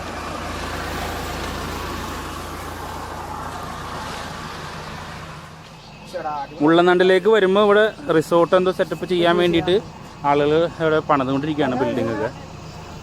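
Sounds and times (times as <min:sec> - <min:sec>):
low engine drone: 0:00.0 - 0:13.0
road and tyre noise: 0:00.0 - 0:13.0.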